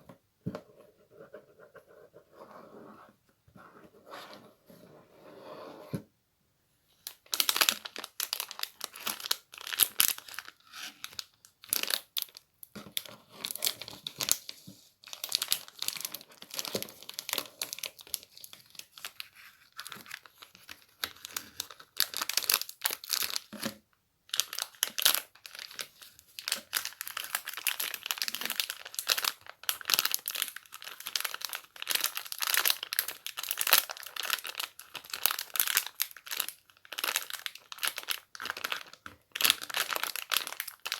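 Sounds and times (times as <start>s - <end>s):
crinkly material rustling: 7.0s - 23.6s, 24.3s - 40.9s.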